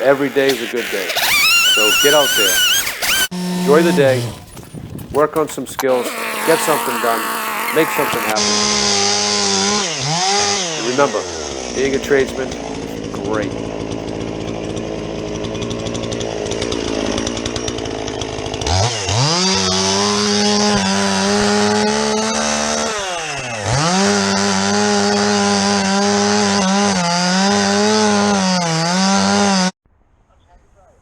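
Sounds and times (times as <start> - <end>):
chainsaw engine idling and revving: 0.0 - 29.8.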